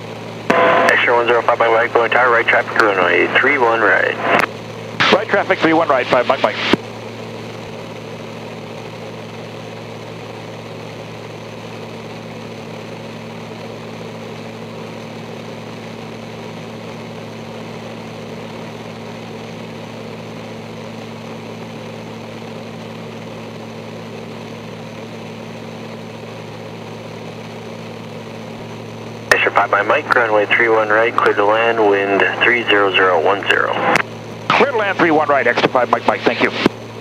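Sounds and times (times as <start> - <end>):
aircraft engine and propeller droning: 0.0 - 37.0.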